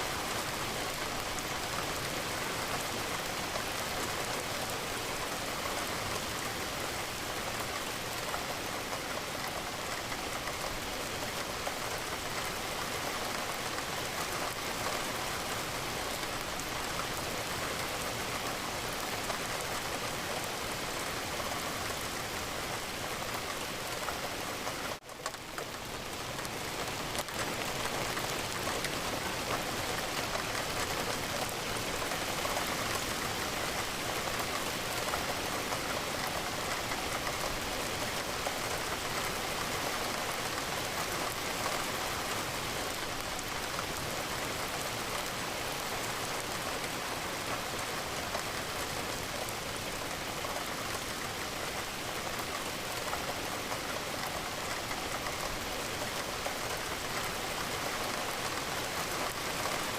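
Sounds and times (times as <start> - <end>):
rain against a window: 0.0 - 59.9.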